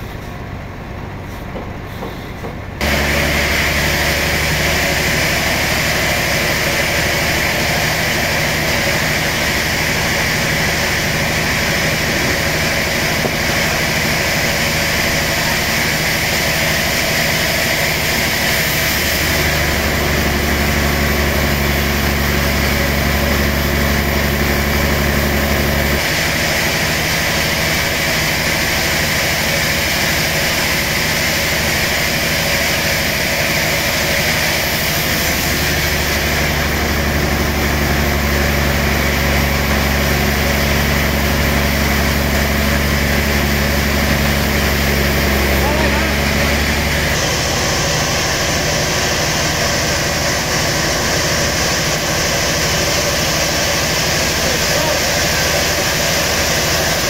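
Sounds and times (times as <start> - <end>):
deep hum: 0.0 - 28.9, 30.6 - 57.0
engine running: 0.0 - 57.0.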